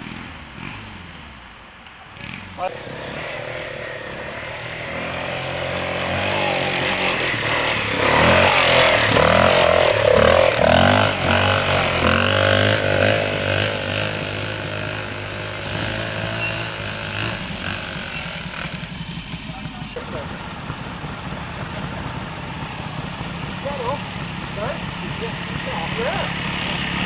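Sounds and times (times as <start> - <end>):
motorcycle engine passing: 0.0 - 27.0.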